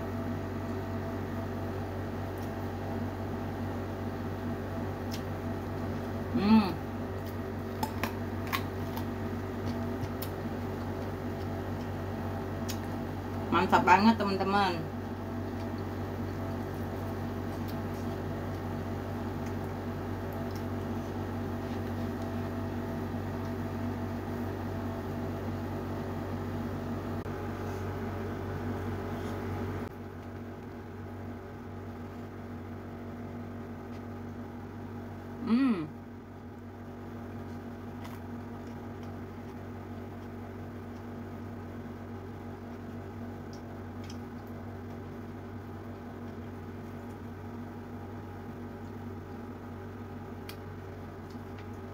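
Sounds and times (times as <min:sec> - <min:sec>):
motor hum: 0:00.0 - 0:51.9.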